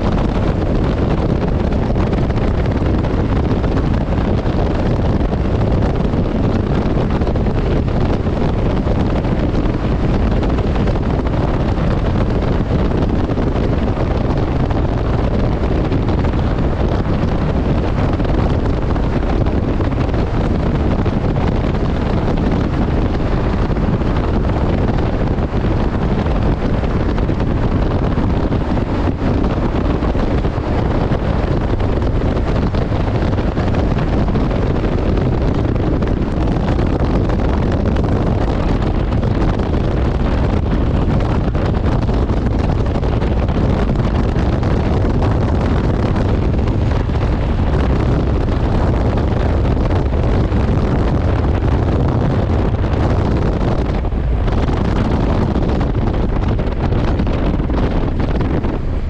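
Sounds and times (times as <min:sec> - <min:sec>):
motorcycle running: 0:00.0 - 0:59.0
wind rushing on microphone: 0:00.0 - 0:59.0.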